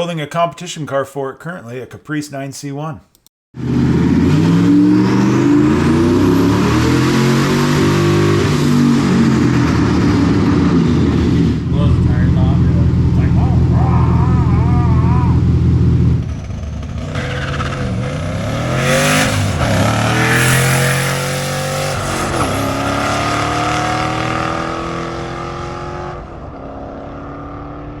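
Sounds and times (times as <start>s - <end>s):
car engine accelerating through gears: 3.6s - 28.0s.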